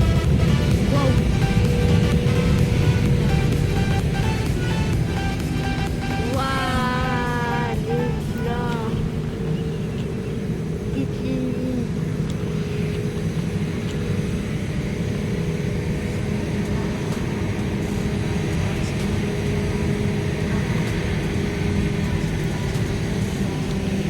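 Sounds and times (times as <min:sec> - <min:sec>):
jet engines droning: 0:00.0 - 0:24.0.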